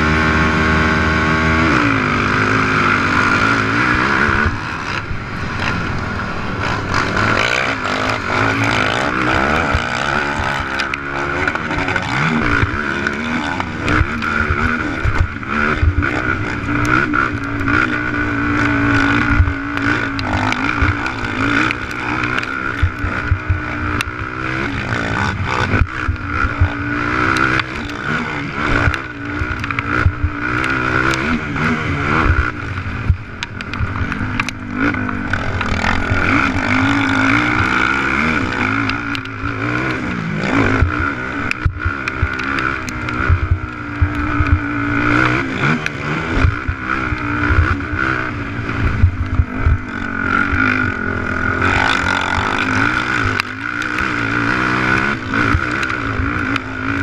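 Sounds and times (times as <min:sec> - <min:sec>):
quad engine revving: 0:00.0 - 0:57.0
quad knocking over rough track: 0:00.0 - 0:57.0.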